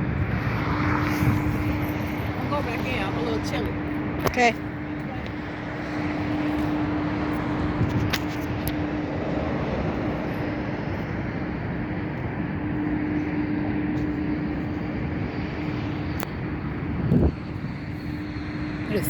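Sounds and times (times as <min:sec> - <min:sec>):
constant low hum: 0:00.0 - 0:19.0
jet airliner noise: 0:00.0 - 0:19.0.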